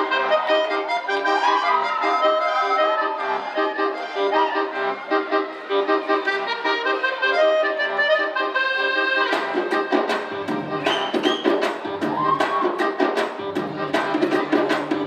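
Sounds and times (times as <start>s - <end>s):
reedy melody with pulsing accompaniment: 0.0s - 15.0s.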